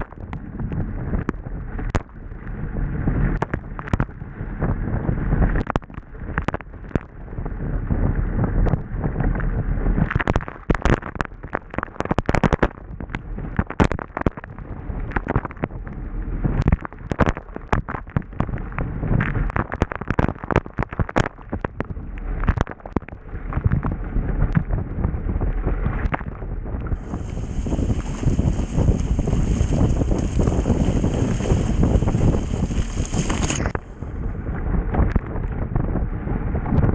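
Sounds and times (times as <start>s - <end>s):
rush of wind and water: 0.0s - 36.9s.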